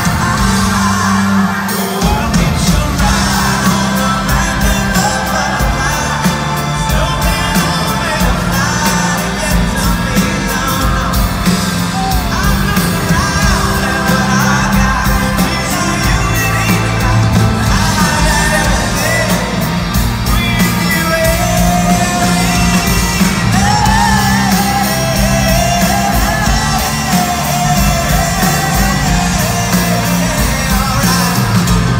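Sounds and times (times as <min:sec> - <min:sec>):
man singing: 0:00.0 - 0:31.9
pop-rock band playing live: 0:00.0 - 0:31.9.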